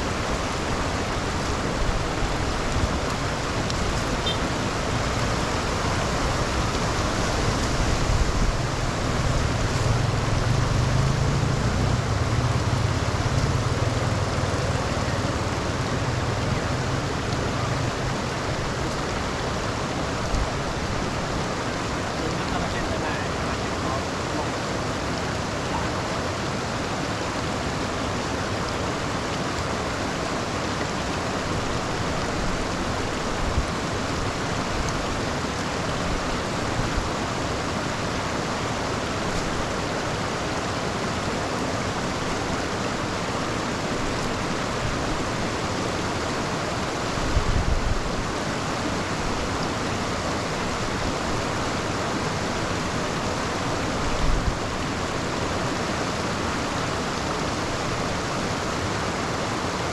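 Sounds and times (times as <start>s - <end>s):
water rushing through drain grate: 0.0s - 59.8s.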